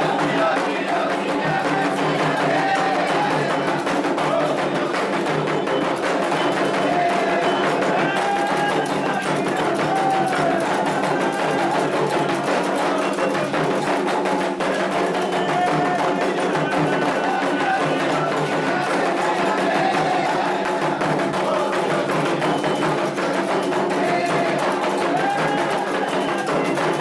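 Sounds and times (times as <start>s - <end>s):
hand drums: 0.0s - 27.0s
voices singing: 0.0s - 27.0s.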